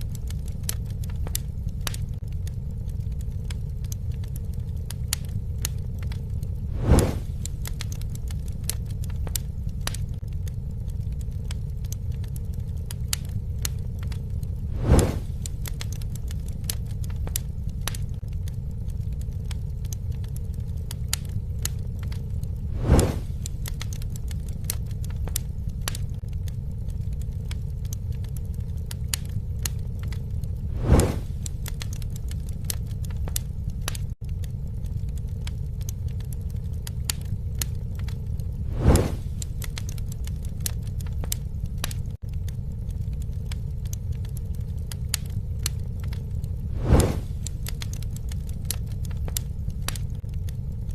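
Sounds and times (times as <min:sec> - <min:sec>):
campfire crackling and popping: 0:00.0 - 0:50.9
low rumble of flames: 0:00.0 - 0:50.9.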